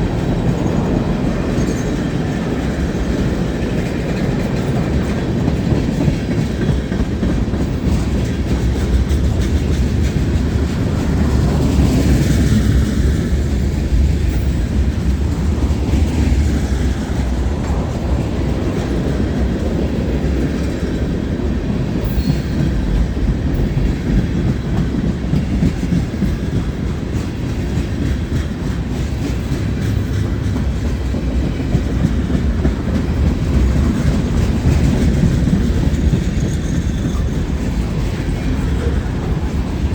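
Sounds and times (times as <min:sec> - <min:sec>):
freight train cars rumbling past: 0:00.0 - 0:39.9.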